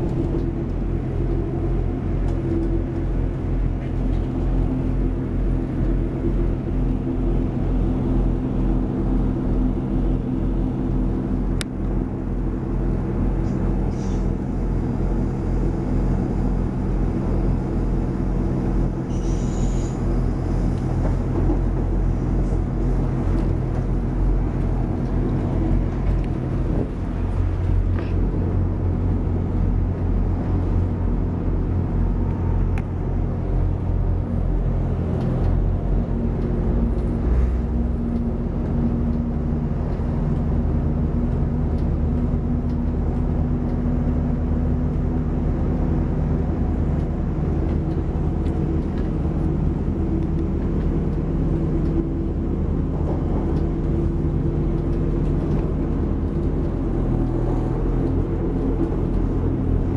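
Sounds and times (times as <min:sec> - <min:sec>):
train engine drone: 0:00.0 - 0:59.9
wheels rumbling on track: 0:00.0 - 0:59.9.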